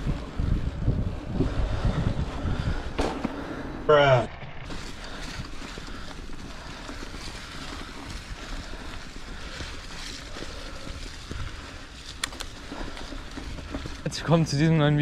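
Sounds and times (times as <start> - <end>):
wind on microphone: 0.0 - 14.0
bike tyres on gravel: 0.0 - 15.0.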